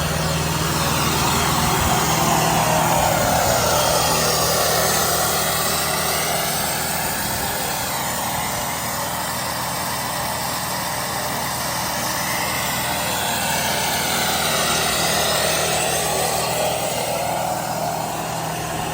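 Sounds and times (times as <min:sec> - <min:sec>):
diesel engine running steadily: 0:00.0 - 0:18.9
wavering high whine: 0:00.0 - 0:18.9.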